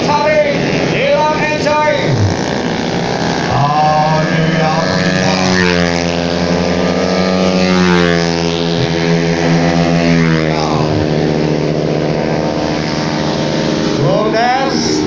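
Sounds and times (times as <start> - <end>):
racing scooter engines: 0.0 - 15.0
scooter passing close: 0.0 - 15.0.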